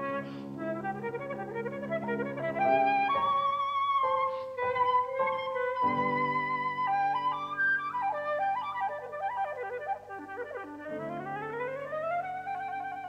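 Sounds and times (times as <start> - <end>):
slow instrumental music: 0.0 - 13.0.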